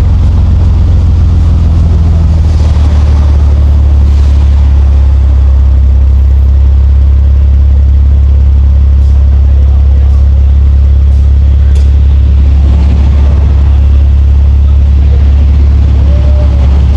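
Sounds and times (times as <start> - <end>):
car engine loud low drone: 0.0 - 16.9.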